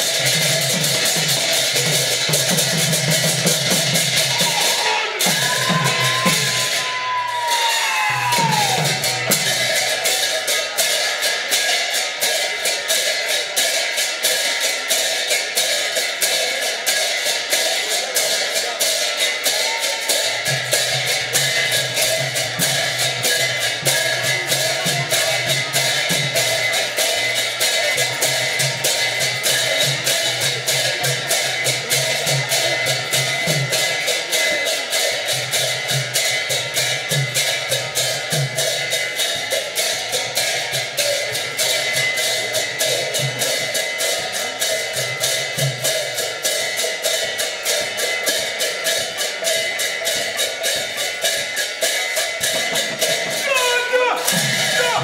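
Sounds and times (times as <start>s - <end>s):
brass hand cymbals clashing: 0.0s - 55.0s.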